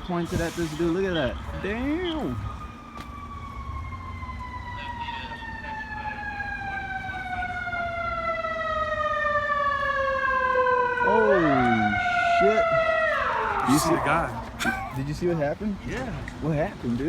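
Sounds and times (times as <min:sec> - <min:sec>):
emergency siren wailing: 0:01.0 - 0:15.3.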